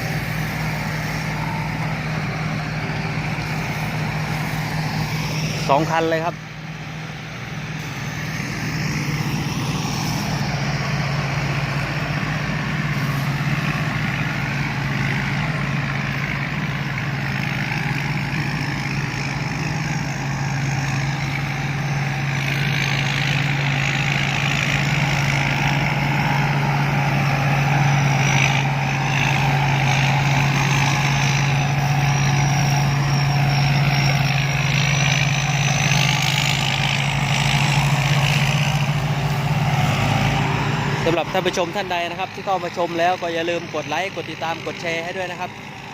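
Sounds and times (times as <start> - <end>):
combine harvester engine drone: 0.0 - 45.9
high machinery whine: 0.0 - 45.9.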